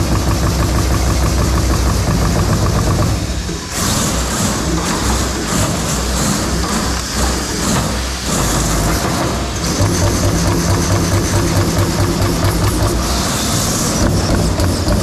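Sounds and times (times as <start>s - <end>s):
machine running noise: 0.0s - 15.0s.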